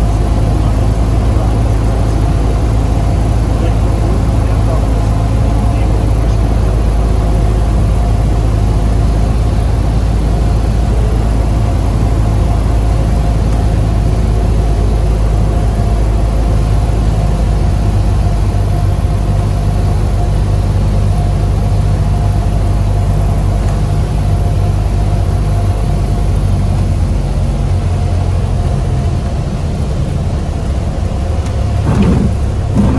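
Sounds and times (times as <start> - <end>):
propeller aircraft engine droning: 0.0 - 32.9.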